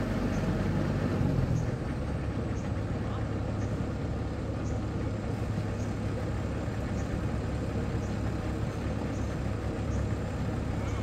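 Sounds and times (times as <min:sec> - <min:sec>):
combine harvester engine running: 0:00.0 - 0:11.0.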